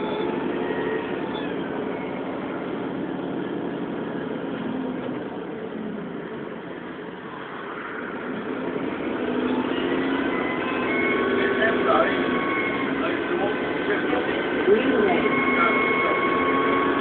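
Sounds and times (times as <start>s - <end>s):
bus engine drone with whine: 0.0s - 17.0s.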